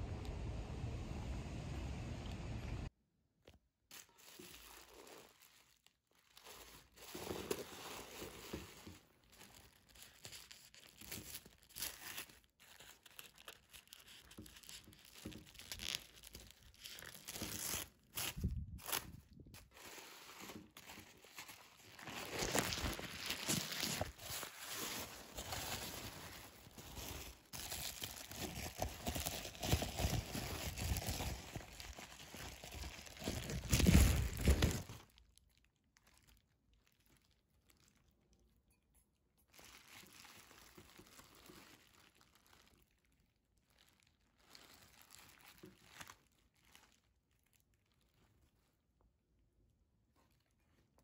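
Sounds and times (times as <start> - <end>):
bubble wrap and paper crinkling: 3.4 - 38.6, 39.4 - 49.3.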